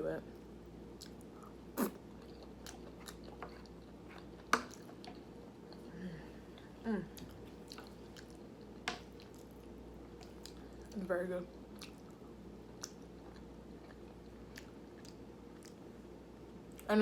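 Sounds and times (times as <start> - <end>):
person chewing food: 0.9 - 15.9.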